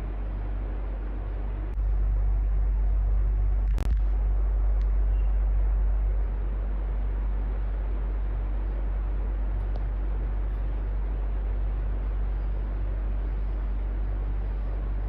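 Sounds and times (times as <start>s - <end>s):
deep low hum: 0.0s - 15.0s
electric fan whooshing: 0.0s - 15.0s.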